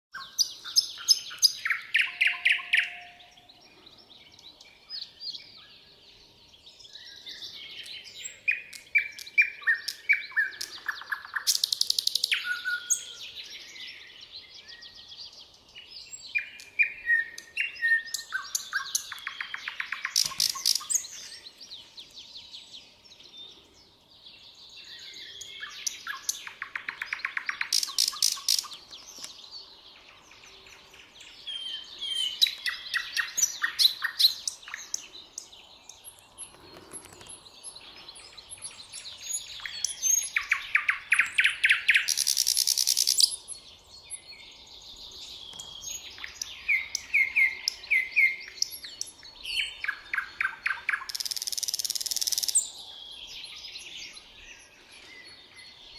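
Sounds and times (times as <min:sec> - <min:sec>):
bird singing whistled notes: 0:00.1 - 0:55.9.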